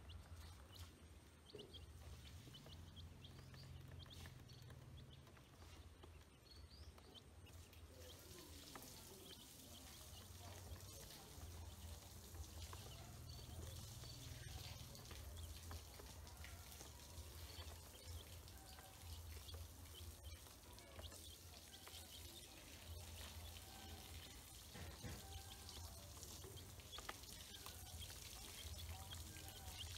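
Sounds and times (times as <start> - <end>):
ducklings and chicks peeping: 0.0 - 29.9.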